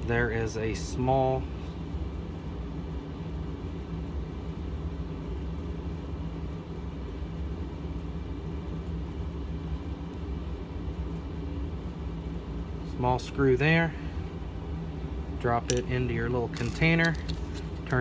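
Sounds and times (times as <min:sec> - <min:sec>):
machinery humming and rumbling: 0:00.0 - 0:18.0.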